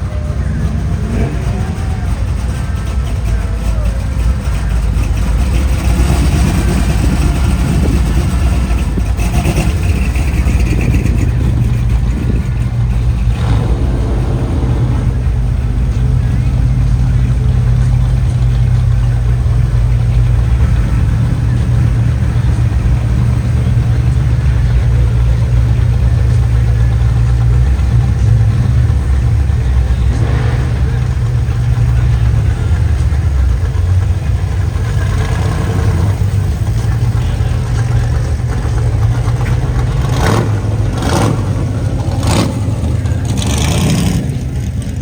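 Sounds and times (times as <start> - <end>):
engine revving: 0.0 - 2.9, 4.2 - 45.0
car engines rumbling: 0.0 - 45.0.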